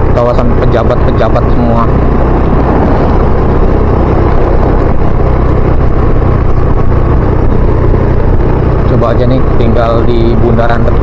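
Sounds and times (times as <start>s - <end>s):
motor scooter engine running: 0.0s - 11.0s
road noise: 0.0s - 11.0s
wind rushing: 1.1s - 11.0s.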